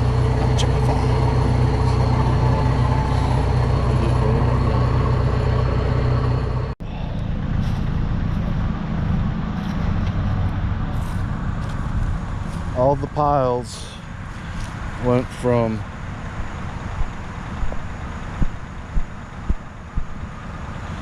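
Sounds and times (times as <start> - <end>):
engine running: 0.0 - 21.0
rough low engine noise: 0.0 - 21.0.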